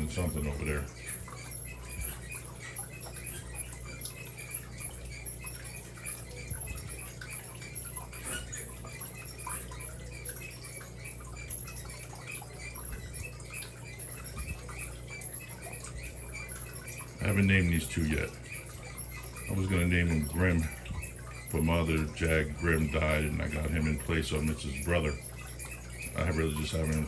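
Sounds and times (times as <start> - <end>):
aquarium equipment humming: 0.0 - 27.0
faint irregular ticking: 0.0 - 27.0
small high chirp: 0.0 - 27.0.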